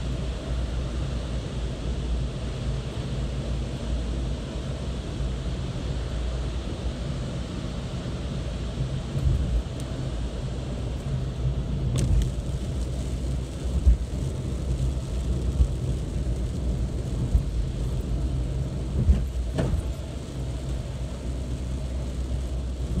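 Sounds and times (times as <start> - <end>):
car engine and road rumble: 0.0 - 23.0
constant hum: 0.0 - 23.0.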